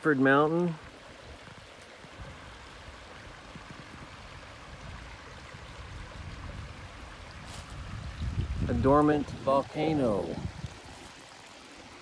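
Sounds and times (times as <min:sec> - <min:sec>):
water rushing over stones: 0:00.0 - 0:12.0.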